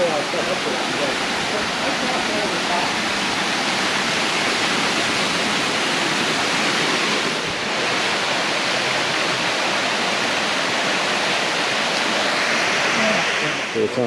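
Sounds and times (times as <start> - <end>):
water rushing over dam: 0.0 - 14.0.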